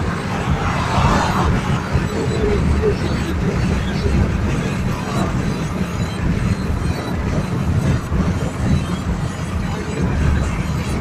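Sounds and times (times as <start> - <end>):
road and wind hiss: 0.0 - 11.0
tyre and engine rumble: 0.0 - 11.0.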